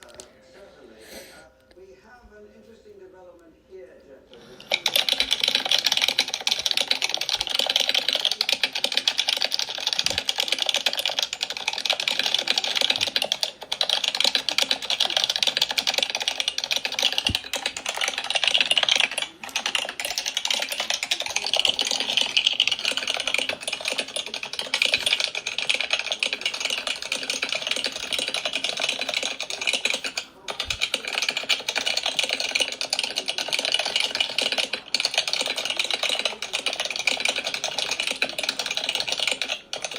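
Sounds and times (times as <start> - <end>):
fast typing on keyboard: 4.4 - 39.9.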